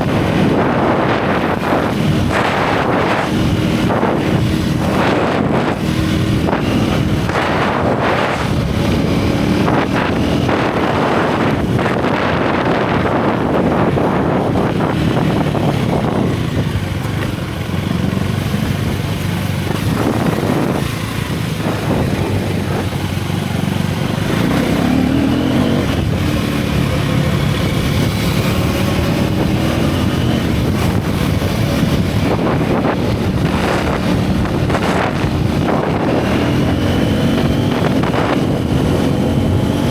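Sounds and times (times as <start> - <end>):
motorcycle engine and exhaust: 0.0 - 39.9
wind buffeting microphone: 0.0 - 39.9.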